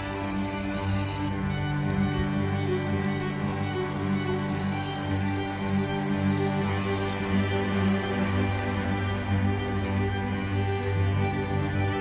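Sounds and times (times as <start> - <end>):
music with held low notes: 0.0 - 12.0.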